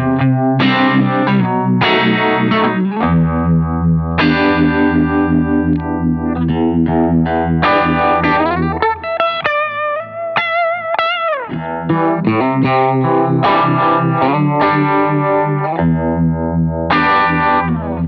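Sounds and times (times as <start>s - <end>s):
electric guitar with vibe effect: 0.0s - 18.0s.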